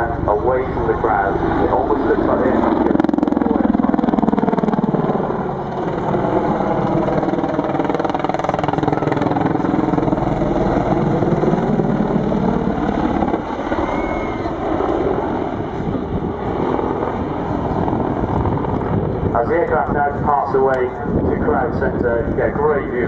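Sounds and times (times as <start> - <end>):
helicopter rotor and turbine engines: 0.0 - 23.0.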